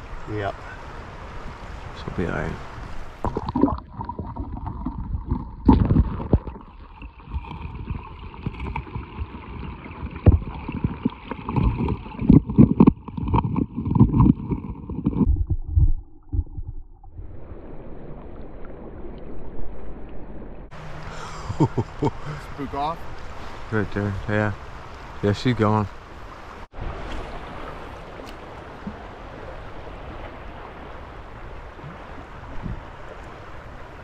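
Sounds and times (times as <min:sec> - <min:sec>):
stream rushing: 0:00.0 - 0:15.3, 0:20.7 - 0:34.0.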